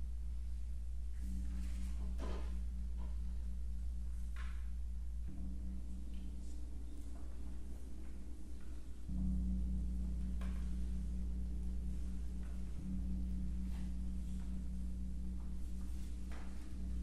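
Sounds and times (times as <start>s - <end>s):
tam-tam low drone: 0.0s - 17.0s.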